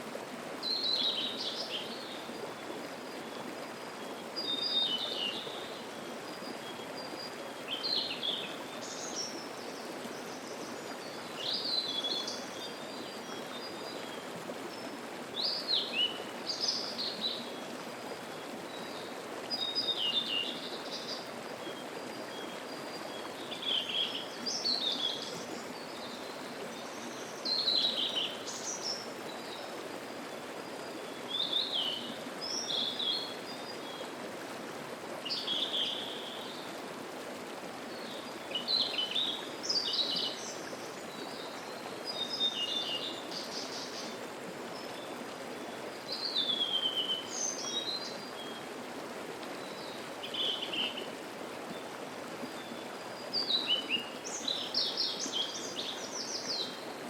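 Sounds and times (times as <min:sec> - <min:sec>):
stream babbling: 0:00.0 - 0:57.0
songbirds singing: 0:00.6 - 0:34.2, 0:37.9 - 0:48.7, 0:49.5 - 0:57.0.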